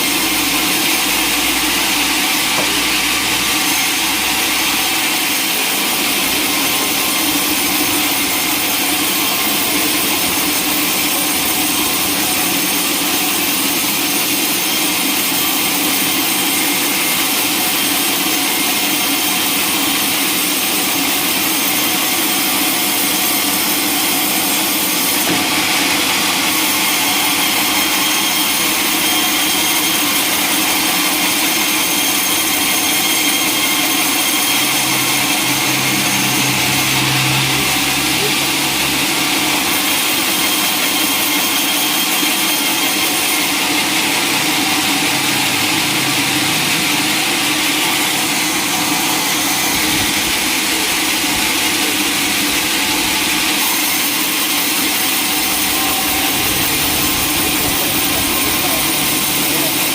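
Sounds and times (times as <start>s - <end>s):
saw hissing through log: 0.0s - 59.9s.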